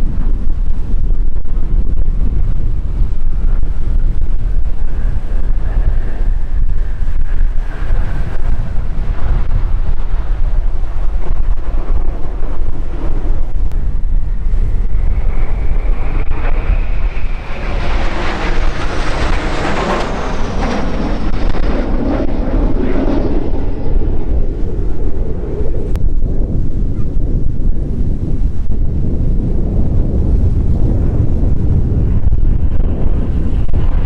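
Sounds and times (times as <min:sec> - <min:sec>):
jets flying past: 0:00.0 - 0:34.0
wind rumble on microphone: 0:00.0 - 0:34.0.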